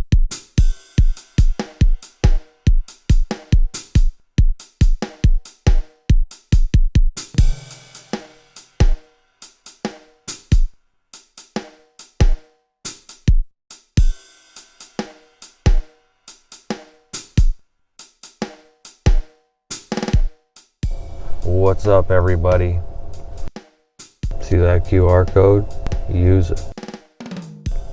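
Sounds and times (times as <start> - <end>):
drum kit beat: 0.0 - 22.8, 23.4 - 27.9.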